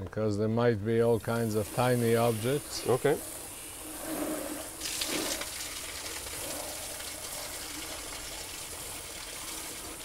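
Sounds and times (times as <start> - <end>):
water hose spraying: 1.0 - 10.0.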